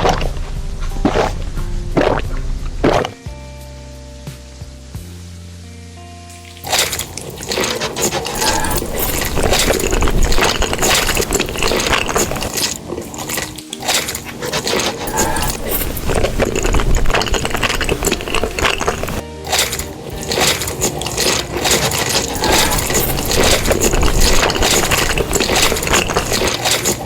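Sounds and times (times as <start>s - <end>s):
wet chewing sounds: 0.0s - 3.2s, 6.3s - 27.0s.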